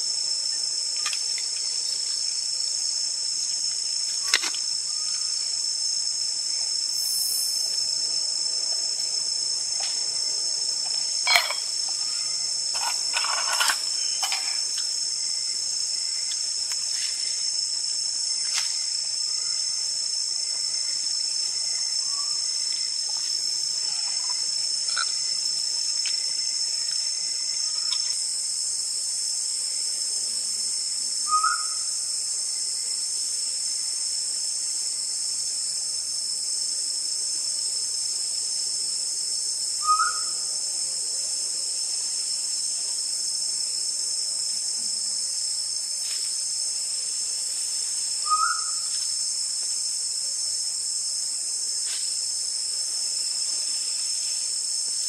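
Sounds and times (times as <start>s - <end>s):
night insects chorus: 0.0s - 55.0s.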